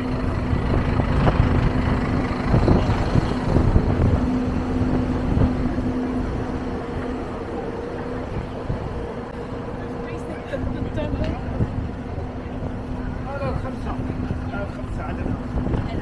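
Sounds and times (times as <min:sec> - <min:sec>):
constant low hum: 0:00.0 - 0:16.0
traffic rumble: 0:00.0 - 0:16.0.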